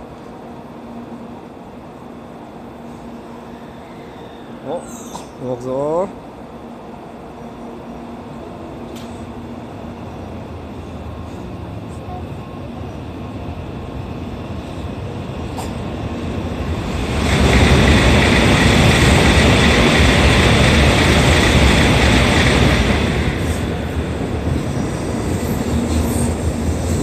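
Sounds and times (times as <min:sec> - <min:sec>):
train running with high whine: 0:00.0 - 0:27.0.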